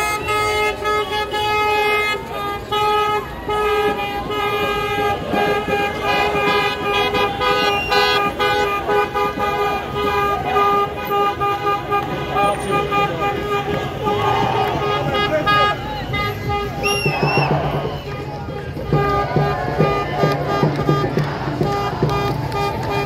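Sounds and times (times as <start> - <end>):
car horns honking: 0.0 - 23.0
crowd shouting and cheering: 0.0 - 23.0.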